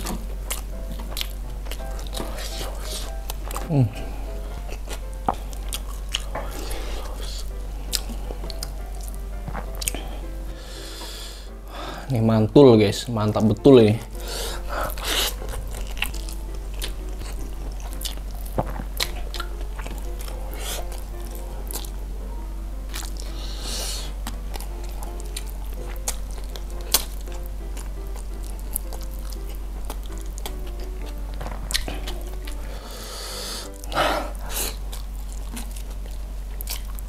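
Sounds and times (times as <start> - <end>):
person chewing food: 0.0 - 12.1, 13.3 - 37.0
quiet background music: 0.0 - 37.0.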